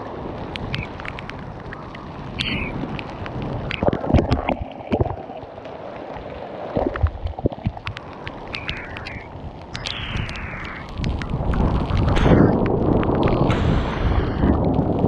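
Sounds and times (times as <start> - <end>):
wind buffeting microphone: 0.0 - 5.2, 6.8 - 15.0
rain and hail ticking: 0.0 - 15.0.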